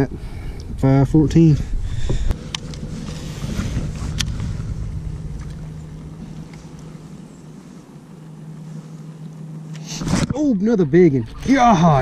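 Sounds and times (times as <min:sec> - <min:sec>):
electric motor humming: 0:01.8 - 0:12.0.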